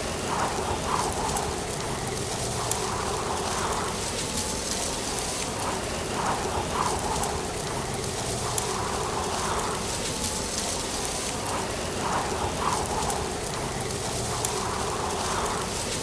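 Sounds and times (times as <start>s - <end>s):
wind rustling dry leaves: 0.0s - 16.0s.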